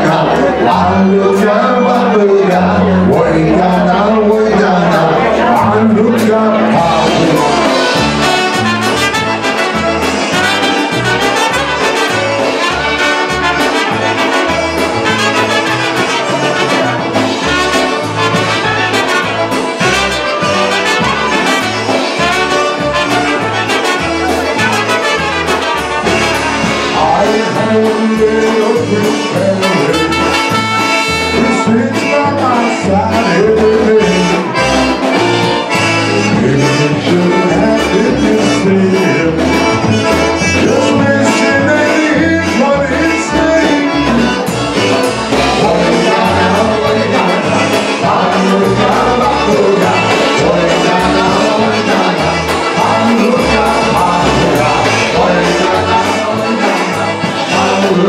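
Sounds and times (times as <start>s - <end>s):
polka band playing: 0.0s - 58.0s
trumpets playing melody: 6.1s - 58.0s.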